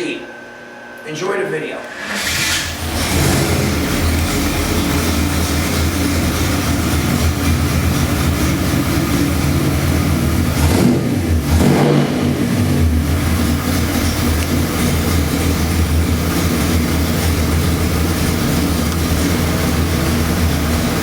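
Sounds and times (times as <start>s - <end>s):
engine revving: 1.9s - 21.0s.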